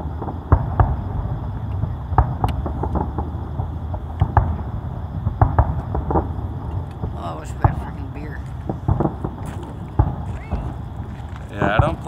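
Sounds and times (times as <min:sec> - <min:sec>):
distant firework bangs: 0:00.0 - 0:12.0
low rumble: 0:00.0 - 0:12.0.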